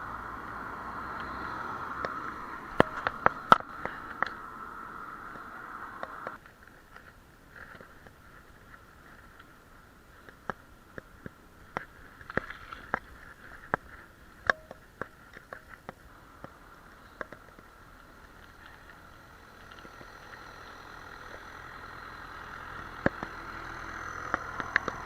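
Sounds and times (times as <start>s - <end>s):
bicycle rattling on road: 0.0s - 25.0s.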